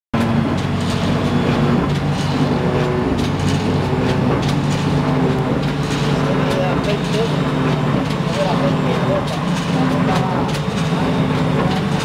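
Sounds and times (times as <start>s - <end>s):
die-cutting machine humming: 0.2s - 12.0s
machine sharp clacks: 0.2s - 12.0s.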